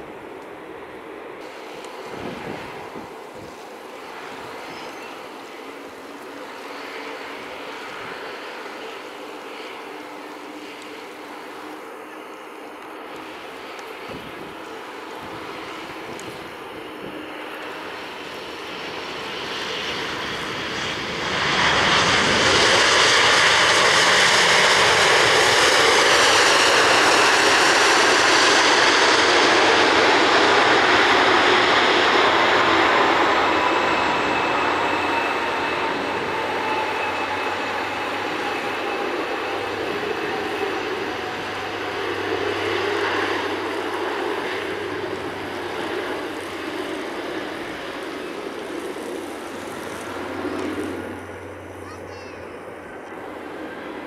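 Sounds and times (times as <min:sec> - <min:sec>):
jet airliner passing: 0:00.0 - 0:54.0.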